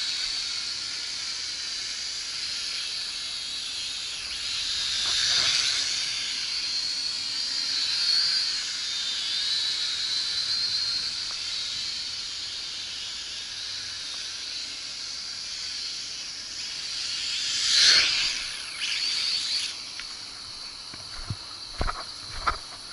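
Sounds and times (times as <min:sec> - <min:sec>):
toy quadcopter motors whining: 0:00.0 - 0:22.9.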